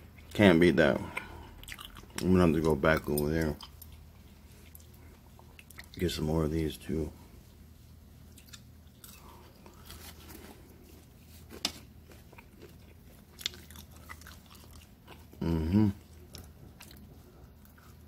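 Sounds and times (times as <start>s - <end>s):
chewing crisp snack: 1.0s - 6.0s, 8.2s - 18.0s.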